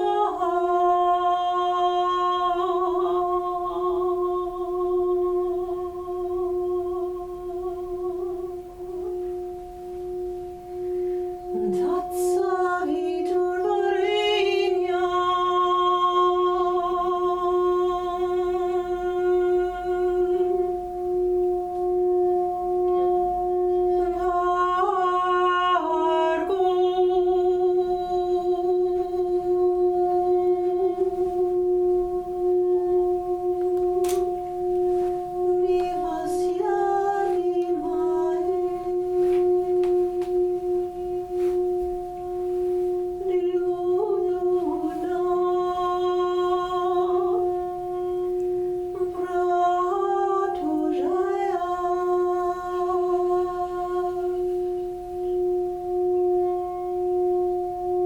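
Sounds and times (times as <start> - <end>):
steady drone tones: 0.0 - 58.0.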